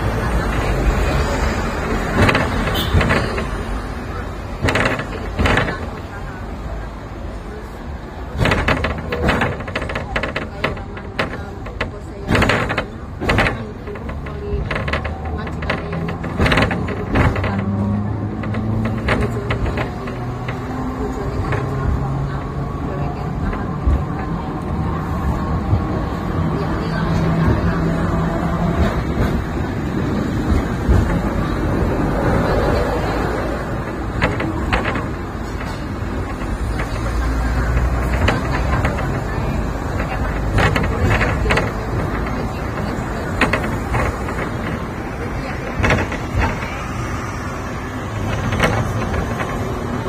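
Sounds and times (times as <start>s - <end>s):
tram rumbling and rattling: 0.0s - 50.0s.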